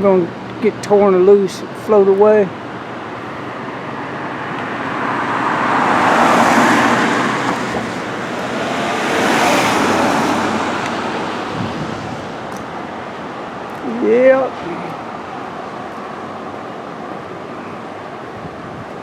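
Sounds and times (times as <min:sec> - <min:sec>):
vehicles passing close: 0:00.0 - 0:19.0.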